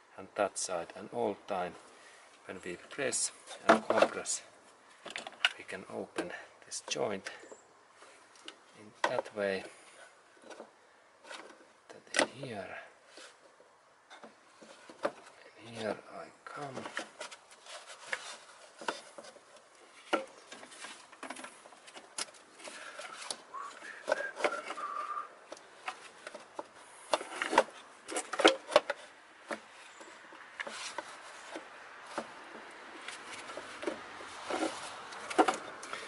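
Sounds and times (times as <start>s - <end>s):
gloved hands on rubber hoses: 1.7s - 36.0s.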